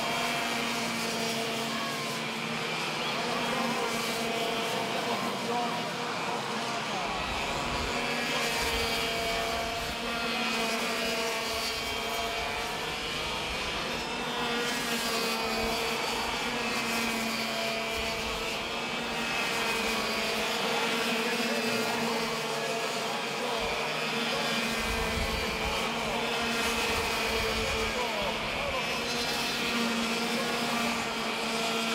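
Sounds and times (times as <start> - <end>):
kart engines buzzing: 0.0 - 31.9.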